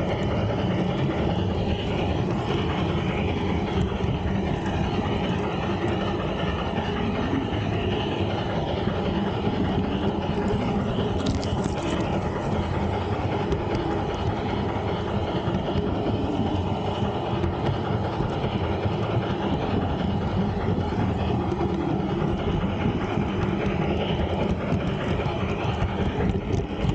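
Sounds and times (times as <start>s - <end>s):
model train wheels rumbling: 0.0s - 26.9s.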